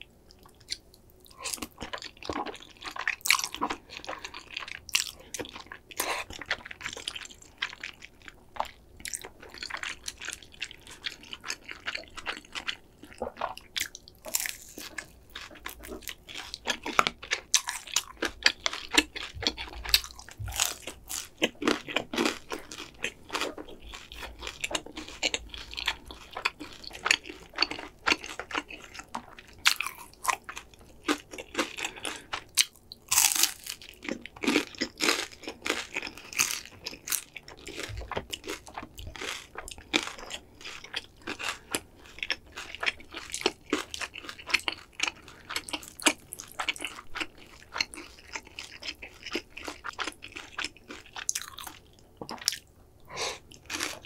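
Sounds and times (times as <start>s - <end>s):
crunching of crispy food: 0.3s - 52.7s, 53.4s - 54.0s.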